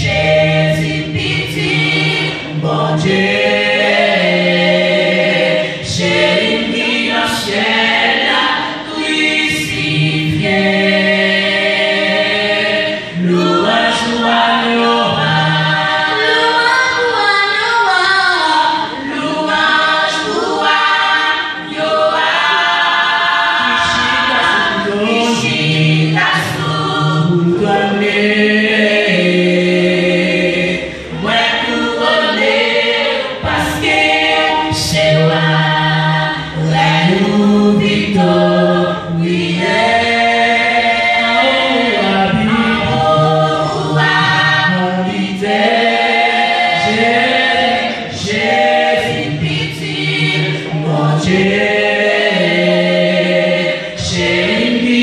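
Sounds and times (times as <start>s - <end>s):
women's vocal group singing gospel: 0.0s - 55.0s.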